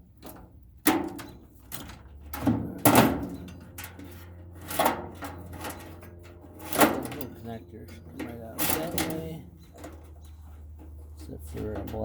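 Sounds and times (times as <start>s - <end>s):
faint low hum: 0.0s - 12.0s
metal parts clunking and rattling: 0.0s - 12.0s.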